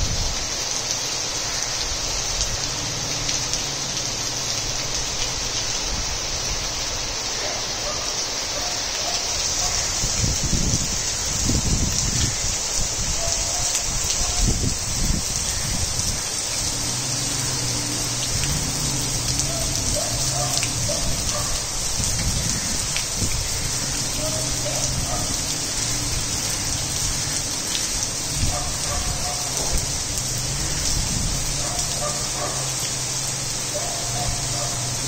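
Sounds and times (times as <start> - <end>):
heavy rain on roof tiles: 0.0 - 35.0
rain splashing into water: 0.0 - 35.0.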